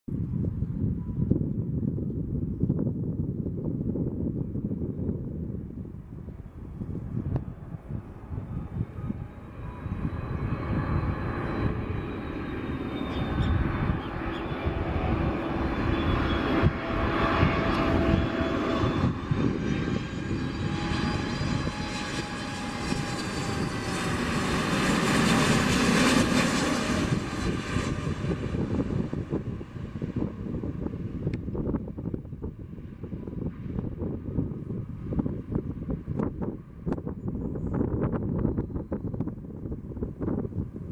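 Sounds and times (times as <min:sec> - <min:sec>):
jet engines passing: 0:03.2 - 0:40.9.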